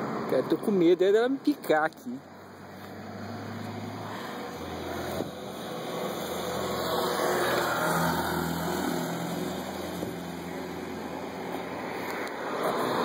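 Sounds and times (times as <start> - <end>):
steady traffic hum: 0.0 - 13.0
vehicle passing: 2.1 - 13.0.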